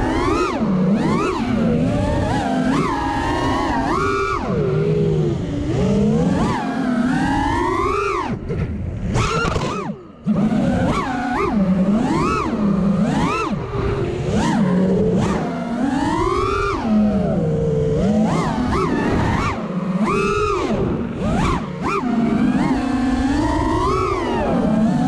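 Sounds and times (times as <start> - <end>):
quadcopter motors whining: 0.0 - 8.5, 9.1 - 25.0.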